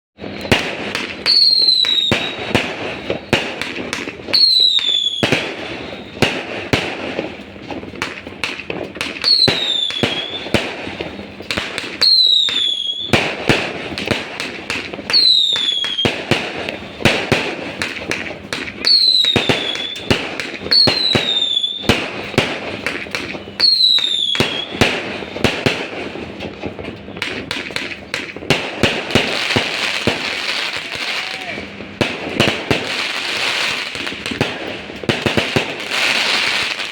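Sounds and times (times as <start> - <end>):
firework crackling: 0.2 - 36.9
fireworks bangs and pops: 0.2 - 36.9
whistling firework shells: 0.2 - 36.9.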